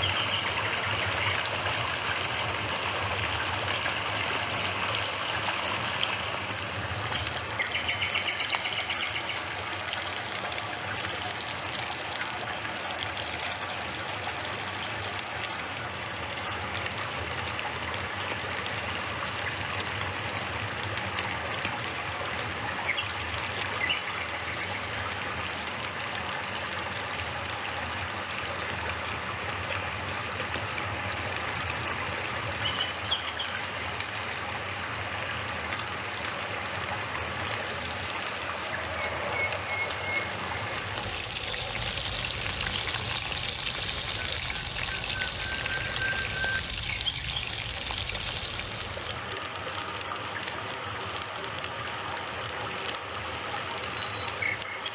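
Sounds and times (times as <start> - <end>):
water trickling over stones: 0.0 - 54.9.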